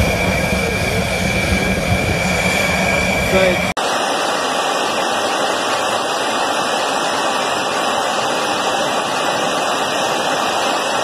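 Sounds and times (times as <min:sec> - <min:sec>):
aircraft in flight rushing noise: 0:00.0 - 0:11.0.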